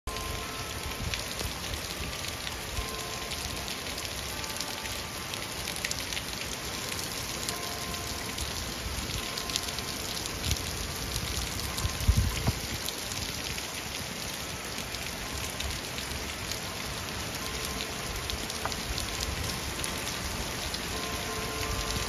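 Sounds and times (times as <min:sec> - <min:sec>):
raindrops ticking on surfaces: 0:00.1 - 0:22.0
steady rain hiss: 0:00.1 - 0:22.0.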